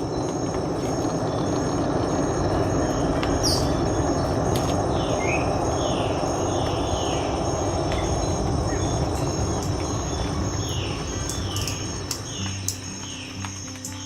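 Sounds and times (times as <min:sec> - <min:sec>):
high pulsing insect note: 0:00.0 - 0:14.0
steady rushing noise: 0:00.0 - 0:14.0.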